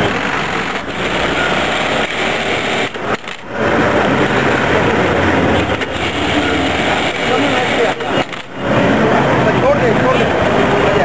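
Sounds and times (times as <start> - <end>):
sewing machine whirring: 0.0 - 11.0.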